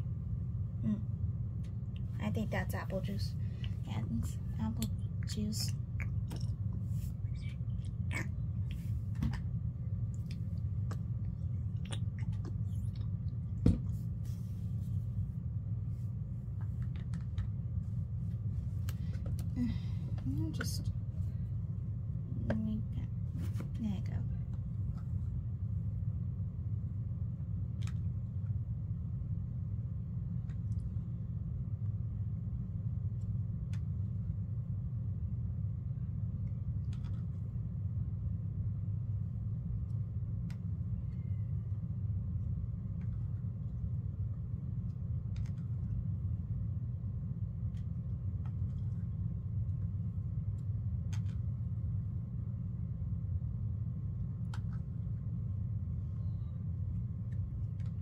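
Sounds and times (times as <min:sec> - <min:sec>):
low room rumble: 0:00.0 - 0:58.0.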